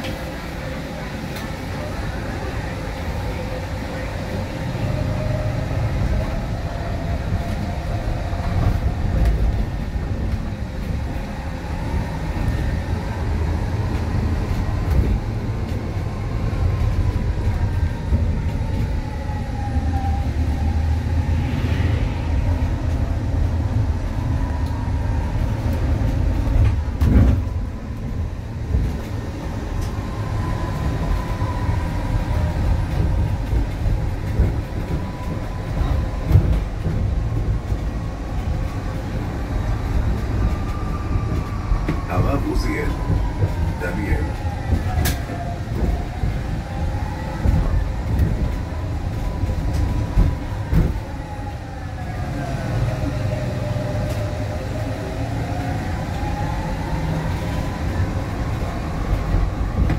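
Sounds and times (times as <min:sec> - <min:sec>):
road and body rumble: 0:00.0 - 0:59.9.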